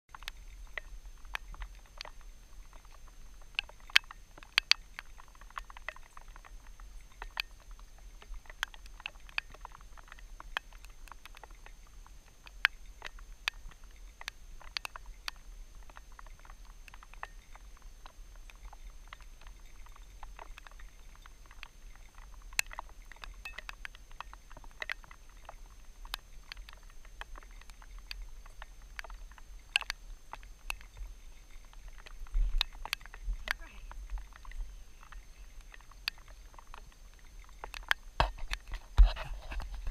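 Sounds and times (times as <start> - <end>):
low steady rumble: 0.1 - 39.9
rain ticking on helmet: 0.1 - 39.9.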